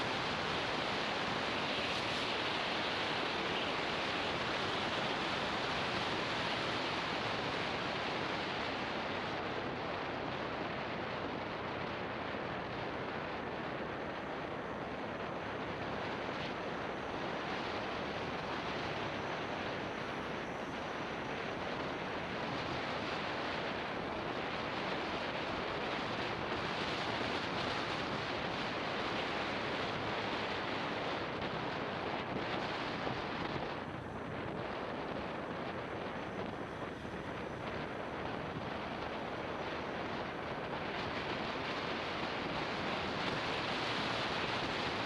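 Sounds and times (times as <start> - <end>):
road noise: 0.0 - 45.0
wind rushing over microphone: 0.0 - 45.0.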